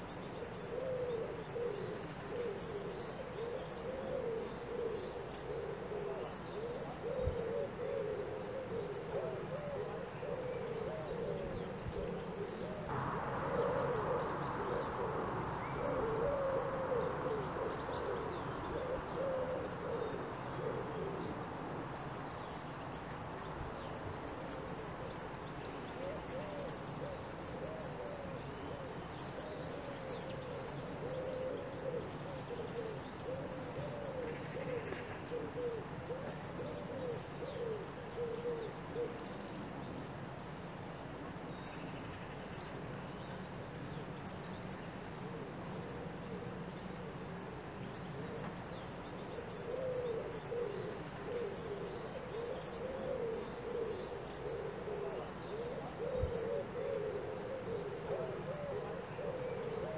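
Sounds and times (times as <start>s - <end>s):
bird cooing: 0.0s - 40.0s, 42.8s - 59.9s
soft background hiss: 0.0s - 59.9s.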